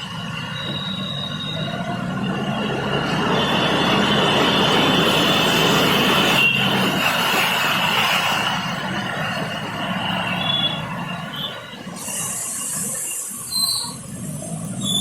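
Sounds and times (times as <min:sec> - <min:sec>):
high squeal of wheels: 0:00.0 - 0:15.0
train rumbling on rails: 0:00.0 - 0:15.0.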